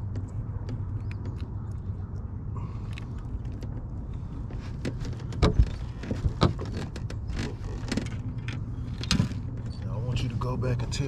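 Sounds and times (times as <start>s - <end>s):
low electric hum: 0.0s - 11.0s.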